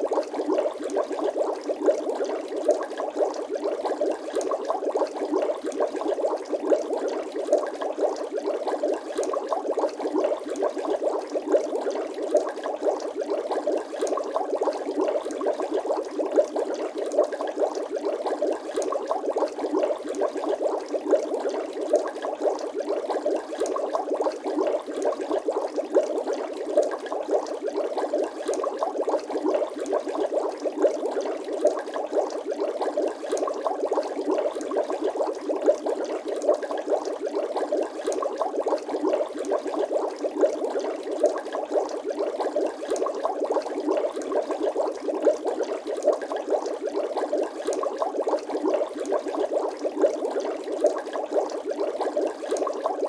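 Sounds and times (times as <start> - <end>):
water bubbling and gurgling: 0.0 - 53.0.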